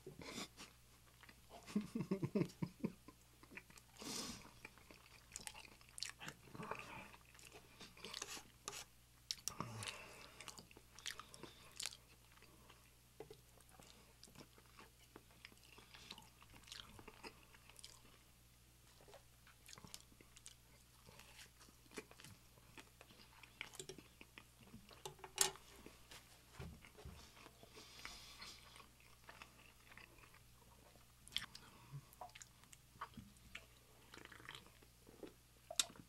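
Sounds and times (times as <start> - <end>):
person chewing food: 1.0 - 2.0, 3.1 - 36.0.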